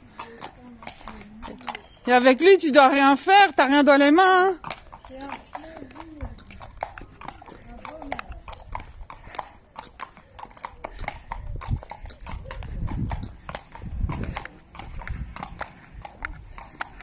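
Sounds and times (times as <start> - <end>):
horse hooves on brick paving: 0.0 - 17.0.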